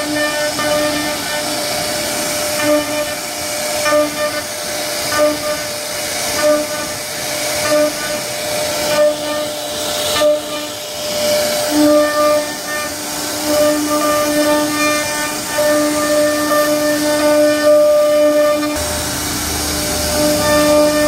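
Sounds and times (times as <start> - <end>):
router spindle whining: 0.0 - 21.0
wood being cut hiss: 0.0 - 21.0.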